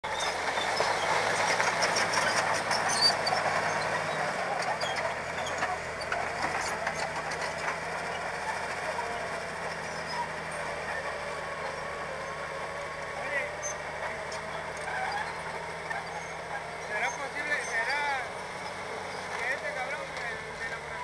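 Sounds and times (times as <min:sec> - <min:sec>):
bulldozer diesel engine under load: 0:00.0 - 0:21.0.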